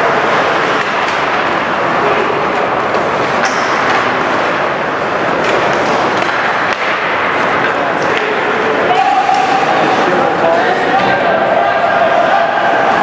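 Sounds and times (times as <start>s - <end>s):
ice rink din: 0.0s - 13.0s
spectators chattering: 0.0s - 13.0s.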